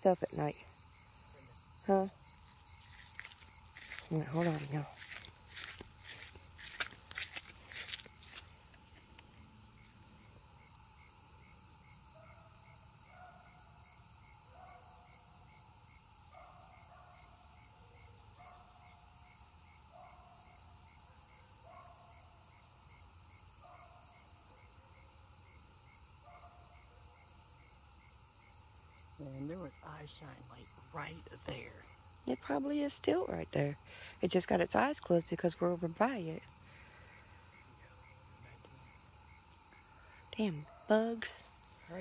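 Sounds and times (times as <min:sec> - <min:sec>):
high insect chirping: 0:00.0 - 0:42.0
lower short insect call: 0:00.0 - 0:42.0.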